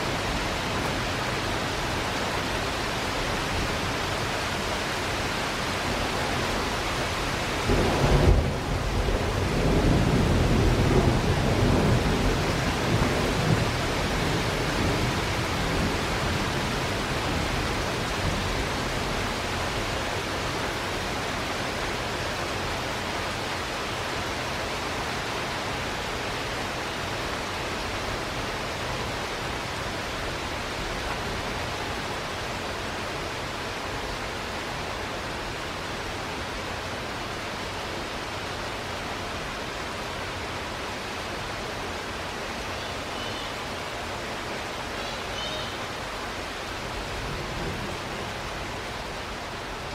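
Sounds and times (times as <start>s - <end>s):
heavy rain: 0.0s - 49.9s.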